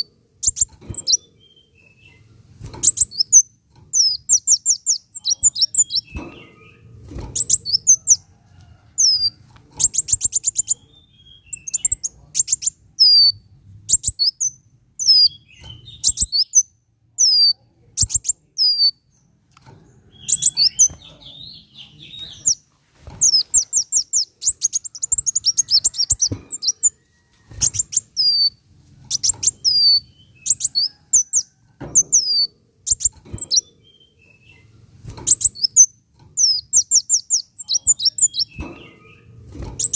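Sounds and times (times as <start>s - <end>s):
sunbird singing chips and trills: 2.8s - 6.8s, 9.0s - 19.4s, 20.1s - 22.6s, 23.2s - 27.0s, 27.6s - 34.7s, 35.3s - 39.9s.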